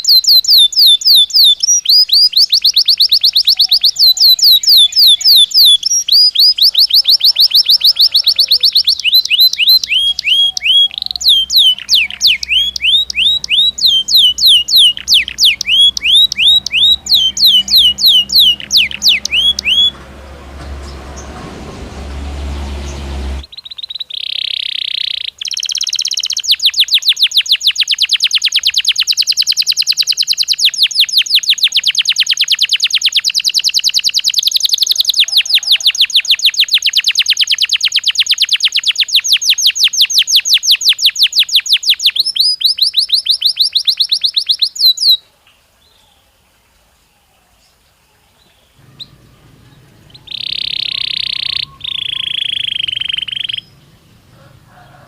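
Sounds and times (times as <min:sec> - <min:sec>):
canary singing: 0:00.0 - 0:45.2, 0:48.4 - 0:55.0.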